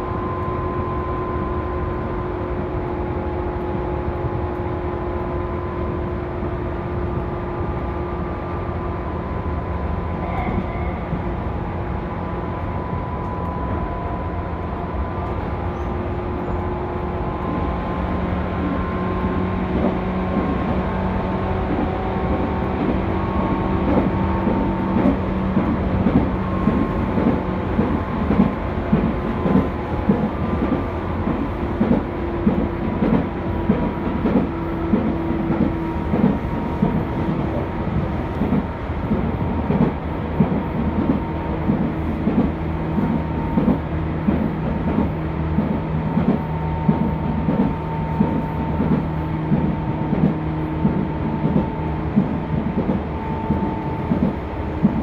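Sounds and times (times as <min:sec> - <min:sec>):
clickety-clack of wheels over rail joints: 0:00.0 - 0:55.0
electric train motor hum: 0:00.0 - 0:55.0.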